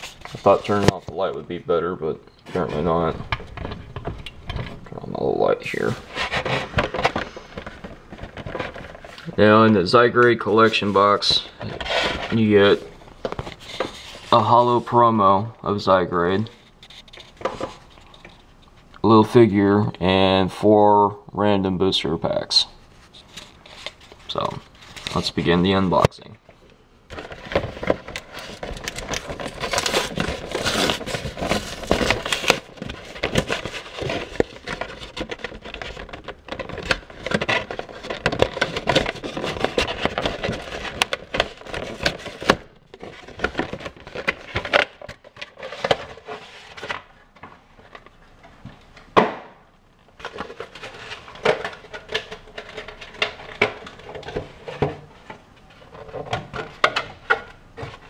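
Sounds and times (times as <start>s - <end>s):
packaging crinkling and scraping: 0.0s - 1.6s, 2.4s - 14.9s, 22.9s - 26.1s, 27.1s - 48.4s, 50.1s - 58.0s.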